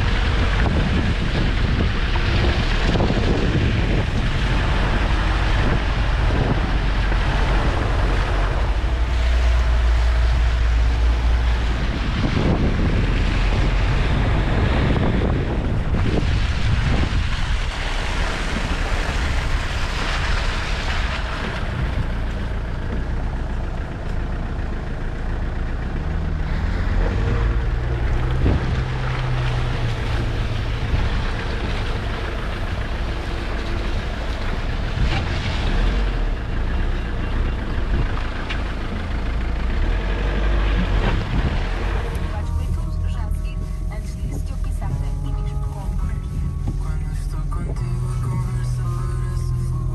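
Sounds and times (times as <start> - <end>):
wind buffeting microphone: 0.0 - 23.2, 27.1 - 36.6, 40.0 - 47.8
off-road vehicle engine running: 0.0 - 49.9.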